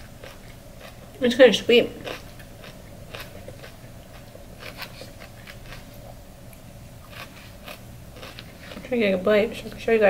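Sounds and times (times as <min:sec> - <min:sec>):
chewing crunches: 0:00.0 - 0:01.2, 0:02.0 - 0:08.9.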